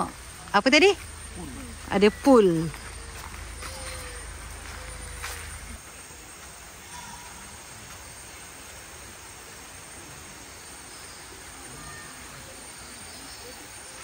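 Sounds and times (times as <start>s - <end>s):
faint distant voices: 0.0s - 14.0s
steady background hiss: 0.0s - 14.0s.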